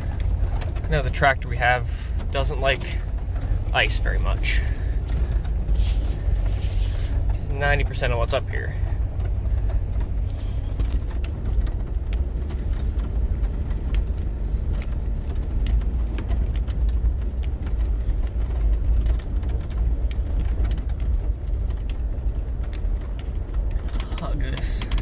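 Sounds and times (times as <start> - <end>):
small clicks and rattles: 0.0 - 25.0
tyres on icy ground: 0.0 - 25.0
vehicle engine rumble: 0.0 - 25.0.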